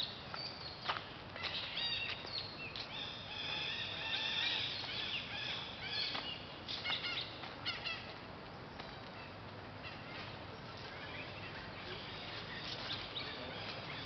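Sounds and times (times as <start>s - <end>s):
birds chirping and calling: 0.0s - 14.0s
outdoor background hiss: 0.0s - 14.0s.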